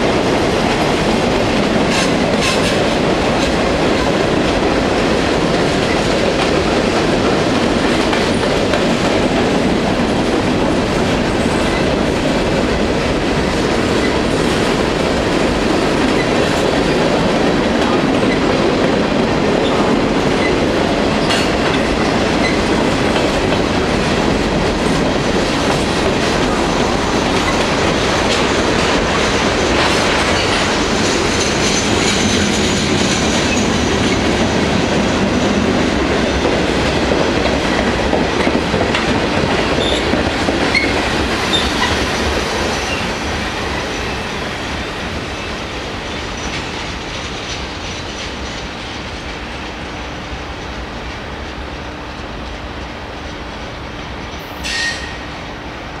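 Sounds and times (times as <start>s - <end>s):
wheels clacking over rail joints: 0.0s - 49.8s
freight train rolling past: 0.0s - 56.0s.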